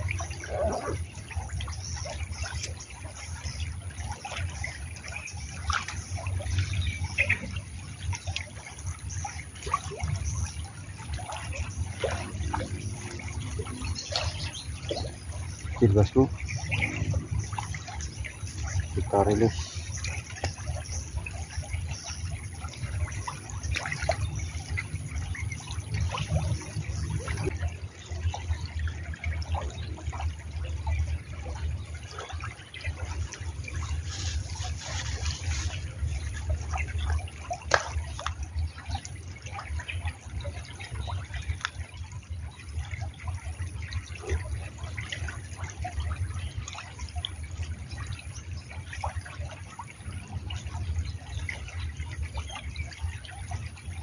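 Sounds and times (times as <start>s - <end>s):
small clicks and drips: 0.0s - 54.0s
stream water trickling: 0.0s - 54.0s.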